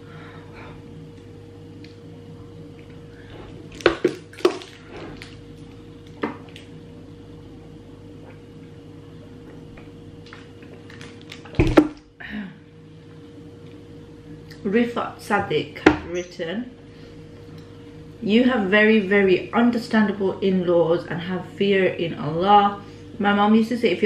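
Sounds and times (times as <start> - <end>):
low hum: 0.0 - 23.4.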